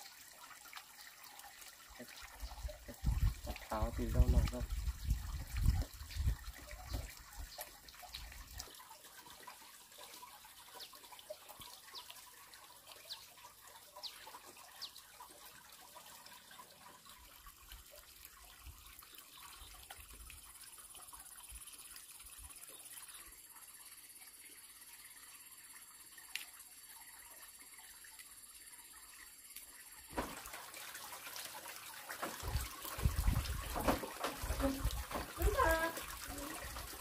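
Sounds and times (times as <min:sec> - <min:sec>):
water trickling: 0:00.0 - 0:37.0.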